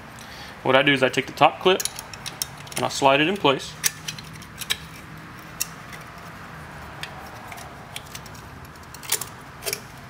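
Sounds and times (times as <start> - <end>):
sharp metallic clicks: 1.2 - 6.3, 6.9 - 10.0.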